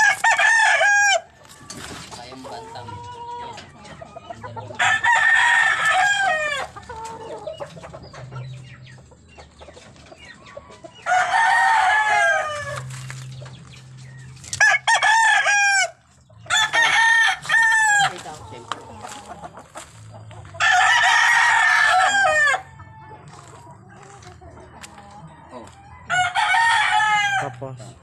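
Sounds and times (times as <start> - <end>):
roosters crowing: 0.0 - 8.4, 10.6 - 28.0.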